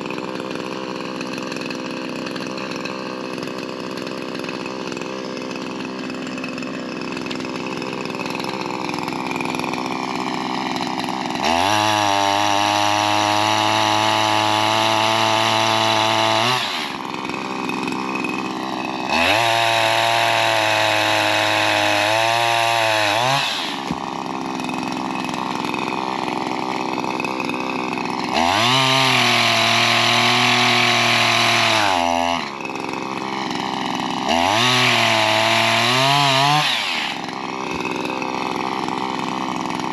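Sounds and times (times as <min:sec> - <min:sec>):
pole saw engine revving and idling: 0:00.0 - 0:39.9.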